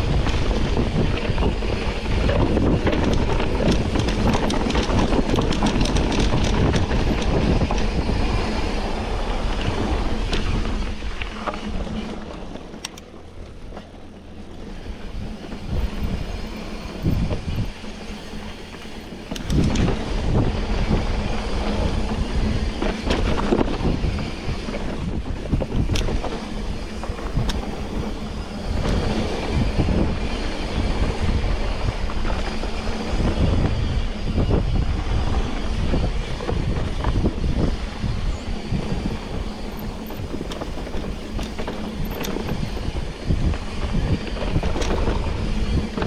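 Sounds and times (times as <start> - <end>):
bicycle rattles and knocks: 0.0 - 46.0
bicycle rumbling on rough trail: 0.0 - 46.0.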